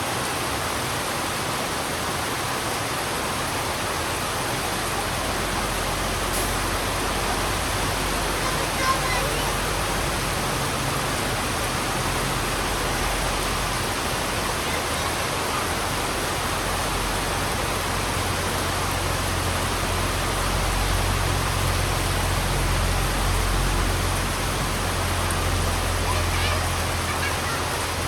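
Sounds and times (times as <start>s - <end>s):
heavy rain on a road: 0.0s - 28.0s.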